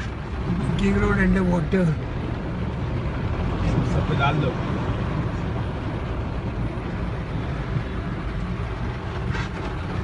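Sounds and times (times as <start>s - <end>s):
vehicle driving on wet road: 0.0s - 10.0s.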